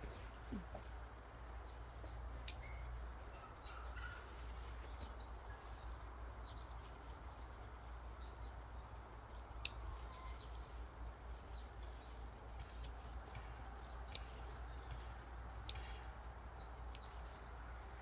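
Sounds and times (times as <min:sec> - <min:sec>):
bird chirps: 0:01.6 - 0:18.0.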